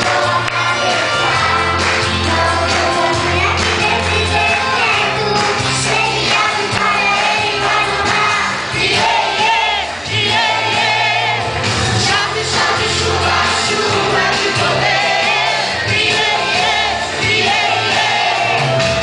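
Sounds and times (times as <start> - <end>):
children's choir singing a hymn: 0.0 - 18.8.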